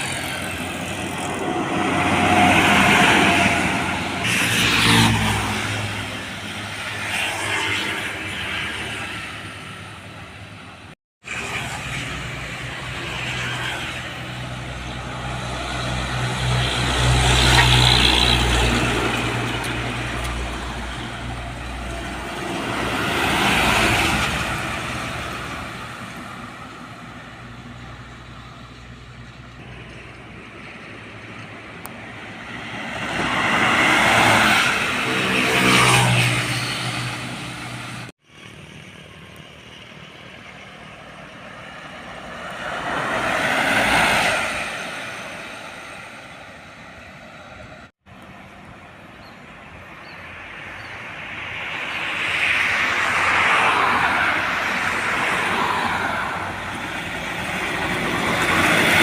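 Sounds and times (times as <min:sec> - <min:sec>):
trucks passing on road: 0:00.0 - 0:59.0.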